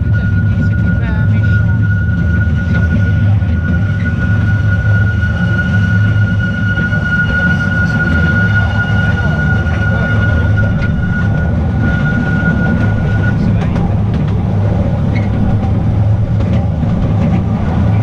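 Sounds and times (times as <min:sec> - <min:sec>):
high-pitched whine: 0:00.0 - 0:18.0
train rumbling on track: 0:00.0 - 0:18.0.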